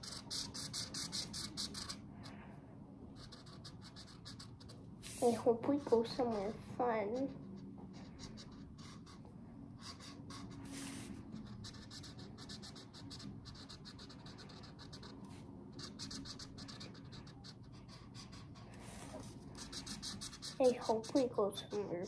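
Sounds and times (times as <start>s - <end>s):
marker scratching on cardboard: 0.0s - 2.0s, 3.2s - 22.0s.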